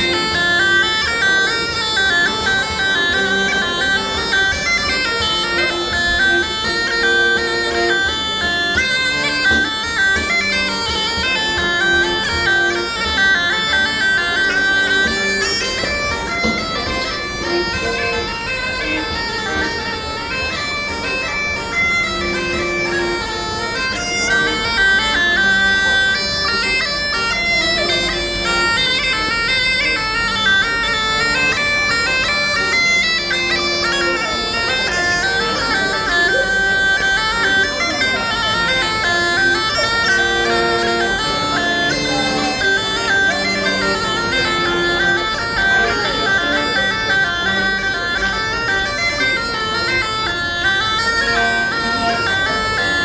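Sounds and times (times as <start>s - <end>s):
bagpipes playing dance tune: 0.0s - 53.0s.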